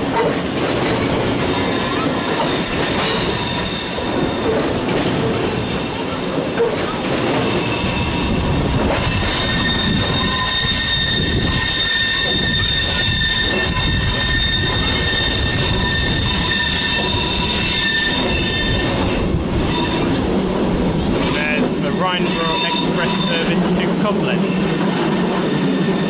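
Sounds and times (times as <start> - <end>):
train running rumble: 0.0 - 26.0
train wheels squealing: 1.0 - 20.3, 20.9 - 26.0.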